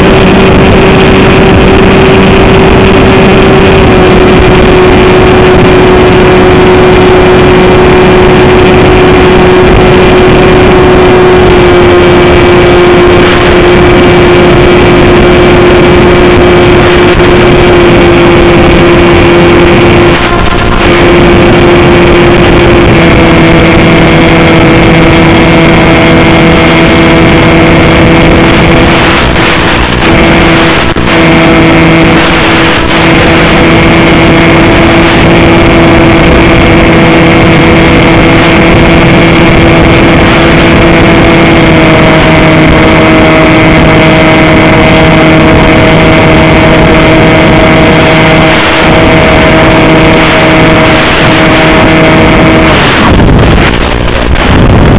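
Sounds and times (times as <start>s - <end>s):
electric propeller motor whine: 0.0s - 54.9s
wind rush: 0.0s - 54.9s.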